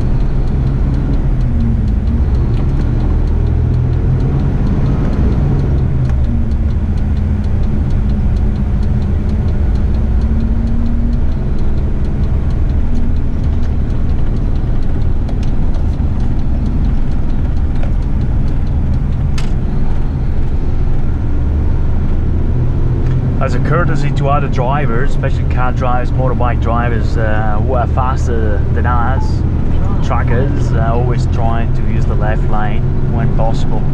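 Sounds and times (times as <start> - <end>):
truck engine drone in cab: 0.0 - 33.9.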